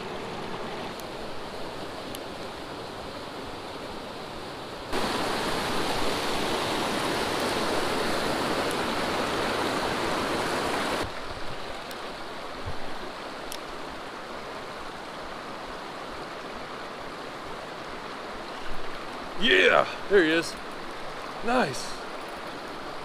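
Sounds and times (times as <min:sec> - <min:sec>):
stream water rushing over rocks: 0:00.0 - 0:23.0.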